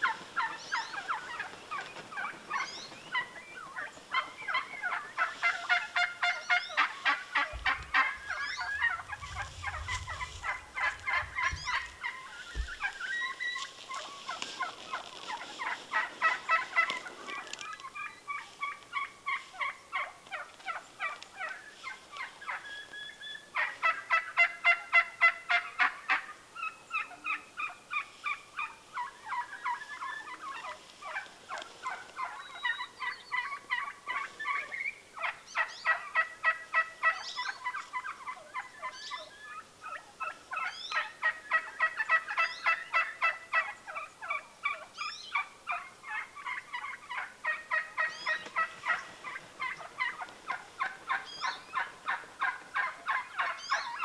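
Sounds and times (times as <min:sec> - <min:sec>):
wild turkeys calling: 0:00.0 - 0:54.0.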